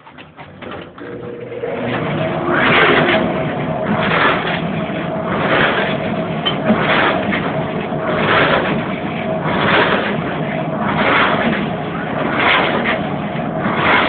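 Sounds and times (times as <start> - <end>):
clothes dryer running: 0.0 - 14.0.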